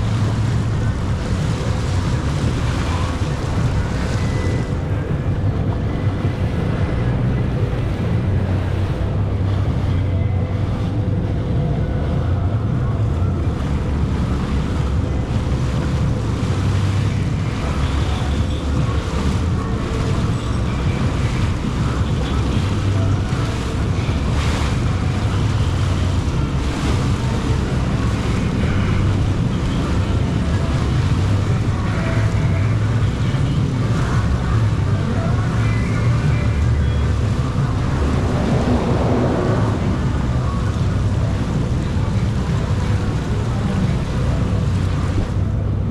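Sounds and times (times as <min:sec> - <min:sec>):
jet ski engine hum: 0:00.0 - 0:45.9
water rushing past hull: 0:00.0 - 0:45.9
wind buffeting microphone: 0:00.0 - 0:45.9.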